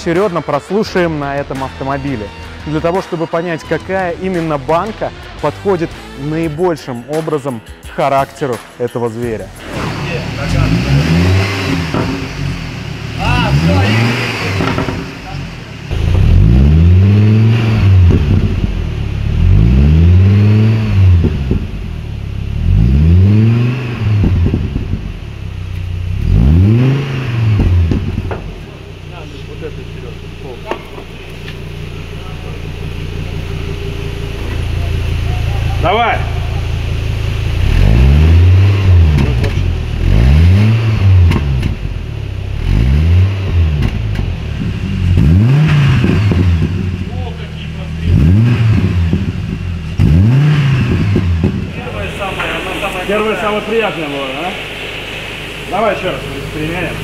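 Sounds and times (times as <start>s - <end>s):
exhaust cracks: 0.0s - 7.5s, 8.3s - 57.0s
car engine revving: 9.4s - 57.0s.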